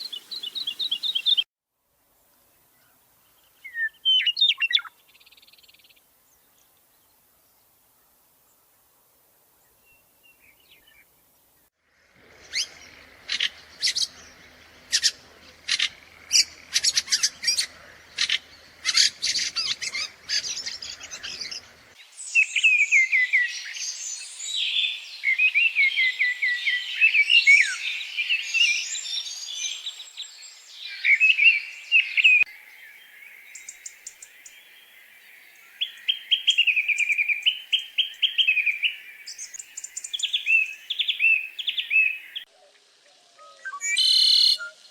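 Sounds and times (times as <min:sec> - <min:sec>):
songbirds chirping and warbling: 0:00.0 - 0:01.5, 0:09.6 - 0:44.9.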